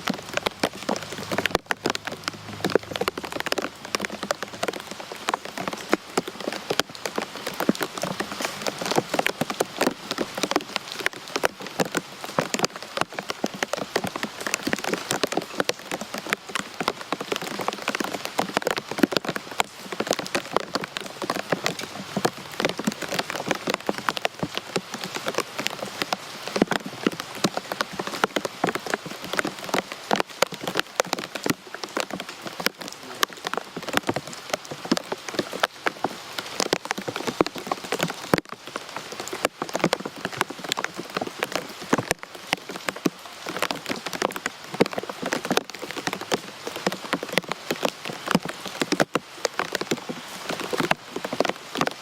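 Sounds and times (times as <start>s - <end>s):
rain falling: 0.0s - 52.0s
raindrops hitting hard surface: 0.0s - 52.0s.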